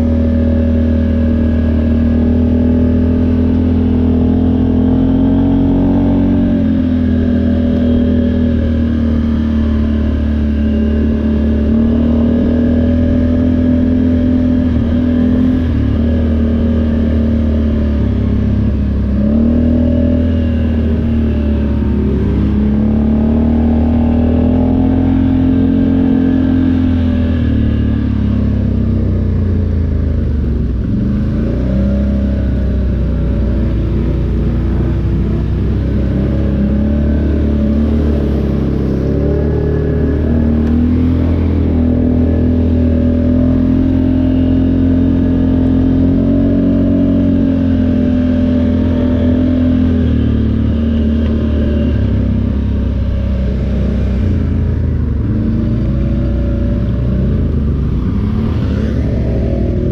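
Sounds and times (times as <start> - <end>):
atv engine revving under load: 0.0 - 59.9.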